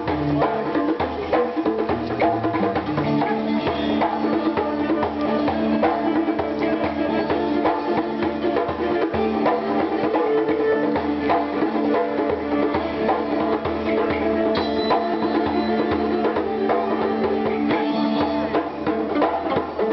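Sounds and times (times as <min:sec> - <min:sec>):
hand drum rhythm: 0:00.0 - 0:19.9.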